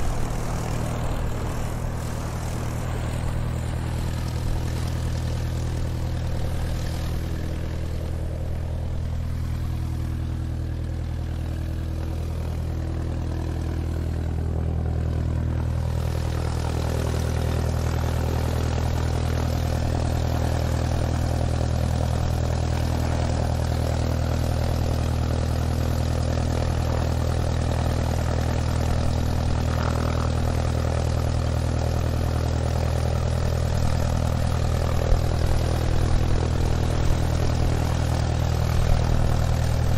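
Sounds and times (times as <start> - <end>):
airplane engines taxiing: 0.0 - 39.9.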